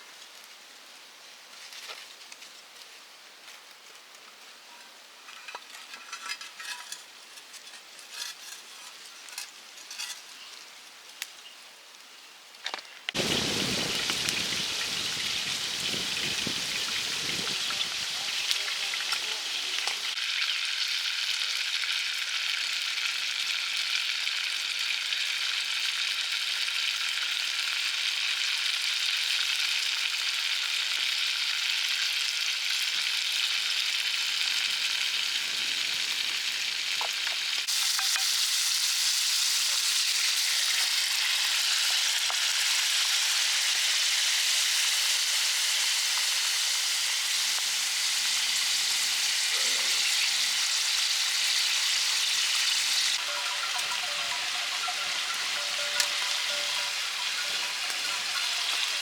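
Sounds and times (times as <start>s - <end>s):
food sizzling in hot oil: 4.6s - 59.0s.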